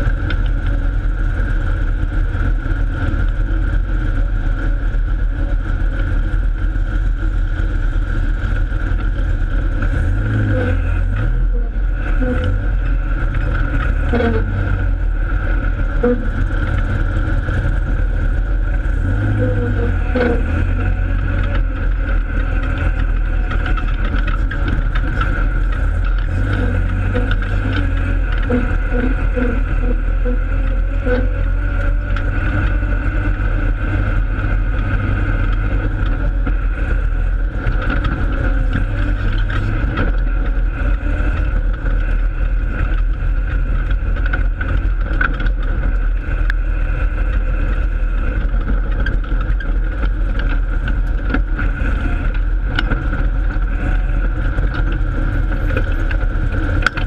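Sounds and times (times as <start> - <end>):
race car engine drone: 0.0 - 57.0.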